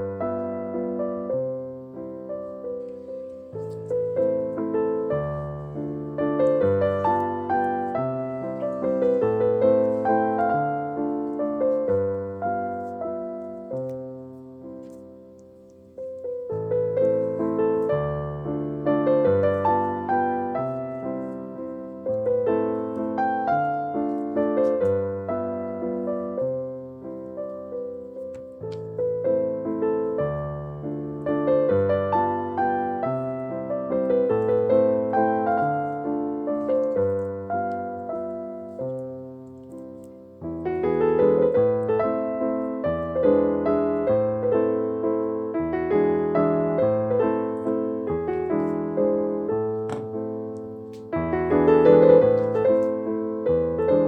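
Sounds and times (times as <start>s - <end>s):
gentle piano music: 0.0s - 54.0s.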